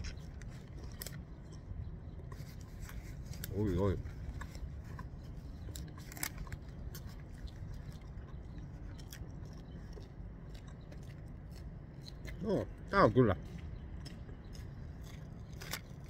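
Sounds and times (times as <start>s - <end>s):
person chewing: 0.0s - 16.0s
steady low rumble: 0.0s - 16.0s.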